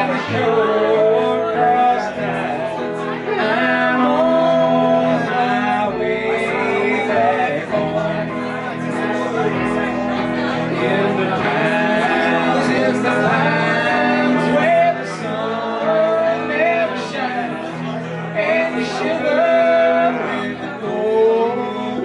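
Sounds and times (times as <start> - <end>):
electric guitar: 0.0 - 22.0
man singing: 0.0 - 22.0
upright bass: 0.0 - 22.0.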